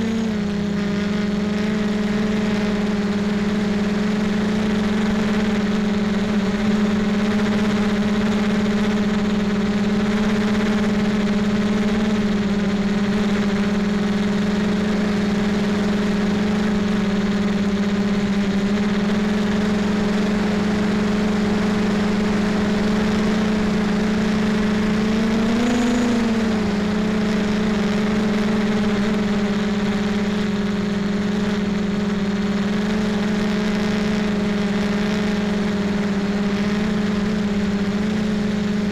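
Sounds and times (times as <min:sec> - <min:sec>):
model aircraft motor humming: 0:00.0 - 0:38.9.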